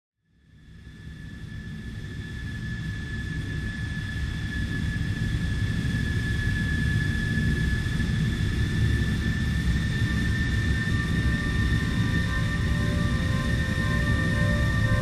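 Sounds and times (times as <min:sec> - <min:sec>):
turbine engine whine: 0:00.8 - 0:15.0.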